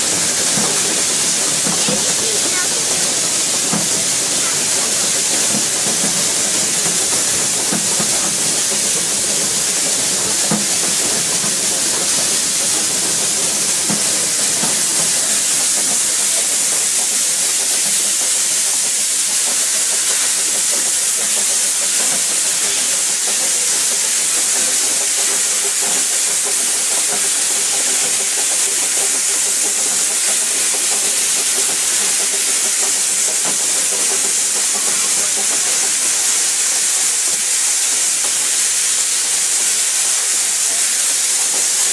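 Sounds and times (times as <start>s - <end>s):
train running hissing rush: 0.0s - 41.9s.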